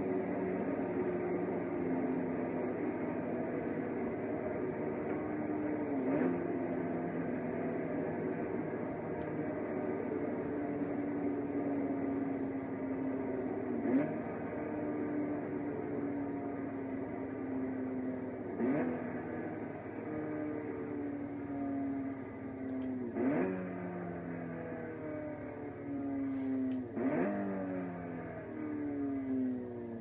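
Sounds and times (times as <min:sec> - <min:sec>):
car engine pulling hard: 0:00.0 - 0:30.0.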